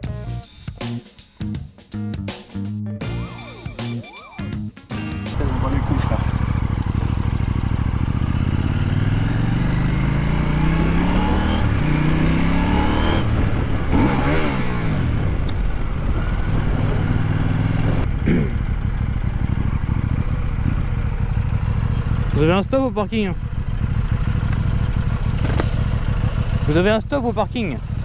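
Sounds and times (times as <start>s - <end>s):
motorcycle engine accelerating: 3.0s - 28.0s.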